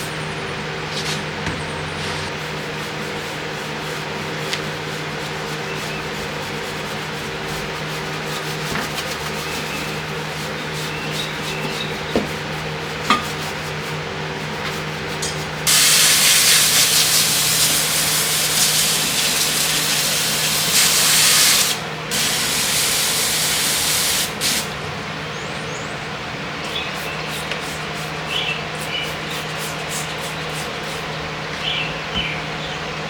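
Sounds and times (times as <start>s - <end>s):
pressurised spray hissing: 2.3s - 24.8s, 26.7s - 31.2s.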